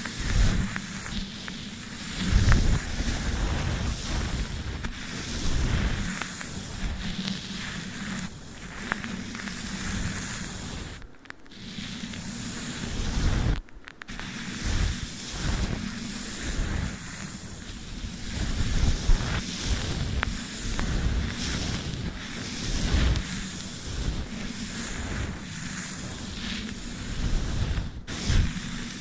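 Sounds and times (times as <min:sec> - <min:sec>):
tape and brush rustling on microphone: 0:00.0 - 0:29.0.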